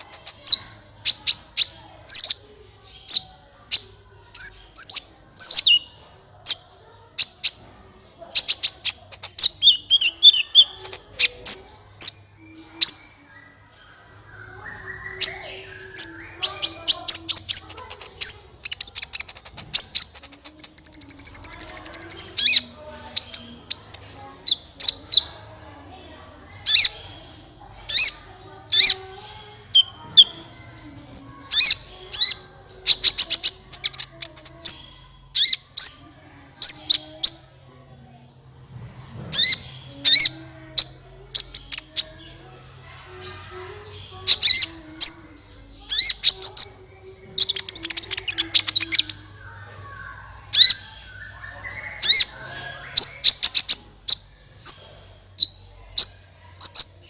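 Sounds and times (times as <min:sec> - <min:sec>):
sunbird chirps and trills: 0:00.0 - 0:37.6, 0:43.9 - 0:57.0.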